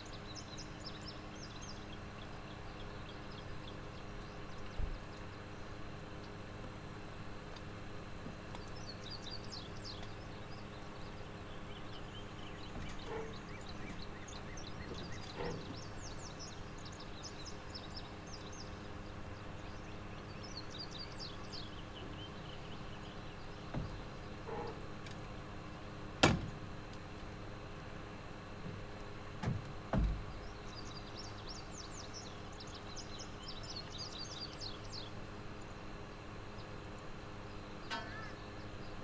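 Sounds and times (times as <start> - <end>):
birds chirping: 0.0 - 6.5, 8.5 - 26.9, 30.0 - 39.0
faint hum: 0.0 - 39.0.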